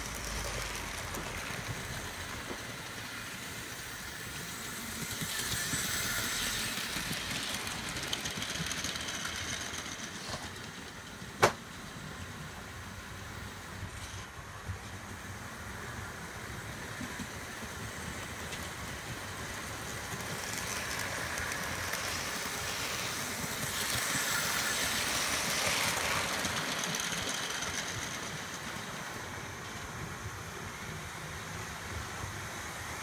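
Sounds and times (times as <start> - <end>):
model train running on track: 0.0 - 33.0.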